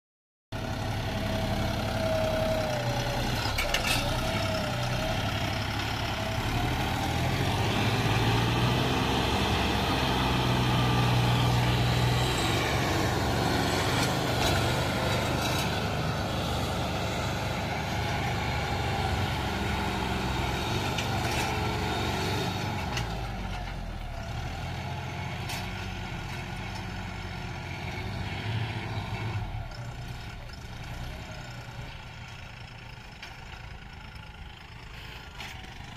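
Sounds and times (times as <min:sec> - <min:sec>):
tractor diesel engine under load: 0:00.5 - 0:35.9.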